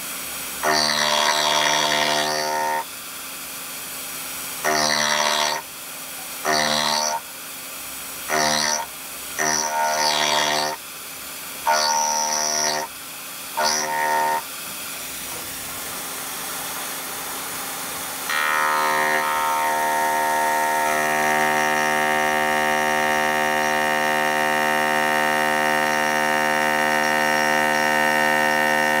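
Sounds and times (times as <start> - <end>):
endmill cutting steel: 0.5 - 2.9, 4.5 - 5.7, 6.4 - 7.3, 8.2 - 10.8, 11.4 - 29.0.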